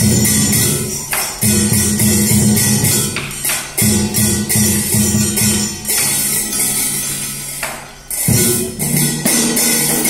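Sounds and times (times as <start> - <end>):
rhythmic percussion with cymbals: 0.0 - 10.0.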